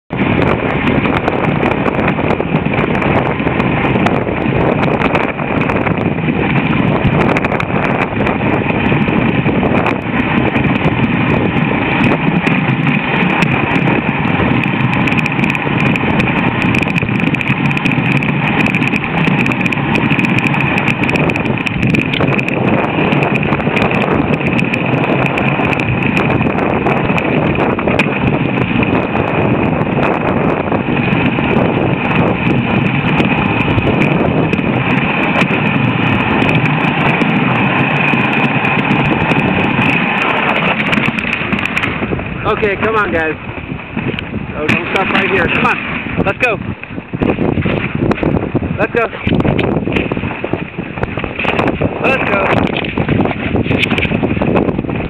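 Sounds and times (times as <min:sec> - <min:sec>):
sled runners rushing on snow: 0:00.1 - 0:55.0.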